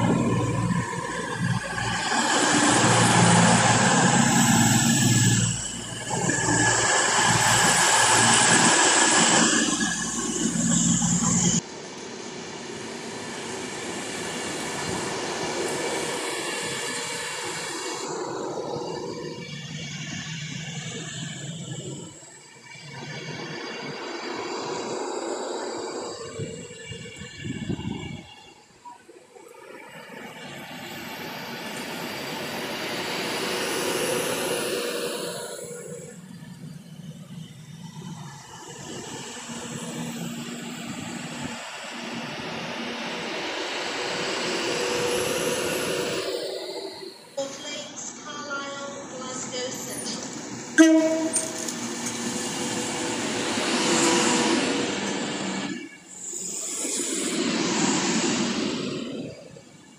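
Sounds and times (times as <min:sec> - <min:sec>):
passenger train passing: 0:00.0 - 0:59.9.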